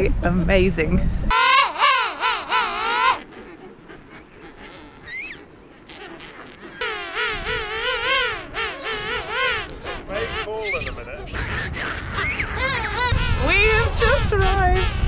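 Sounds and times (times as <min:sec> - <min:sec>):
penguins warbling calls: 0:01.3 - 0:15.0.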